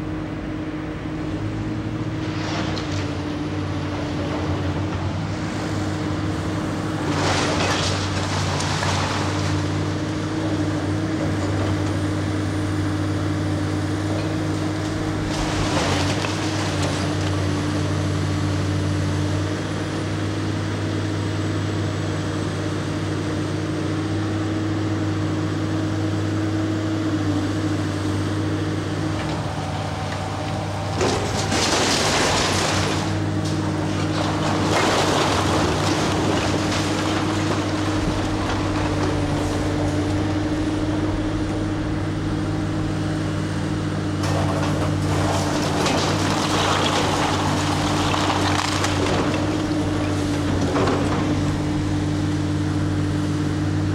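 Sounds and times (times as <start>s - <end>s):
excavator diesel engine running: 0.0s - 53.9s
falling masonry crashing: 1.9s - 20.3s, 28.8s - 53.8s.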